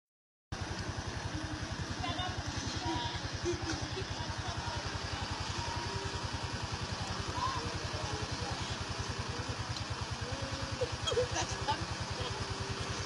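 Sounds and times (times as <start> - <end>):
small engine idling: 0.5 - 13.0.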